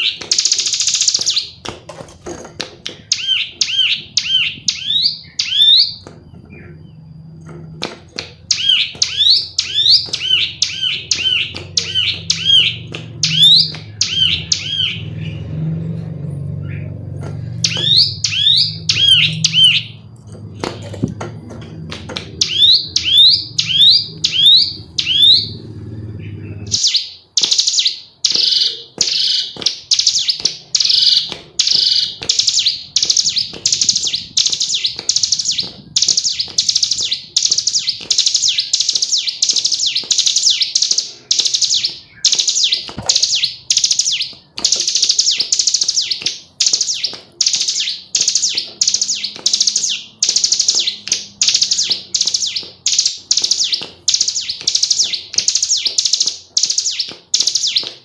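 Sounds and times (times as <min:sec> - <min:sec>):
bird buzzy trills: 0:00.0 - 0:01.7, 0:02.9 - 0:21.1, 0:21.7 - 0:58.0.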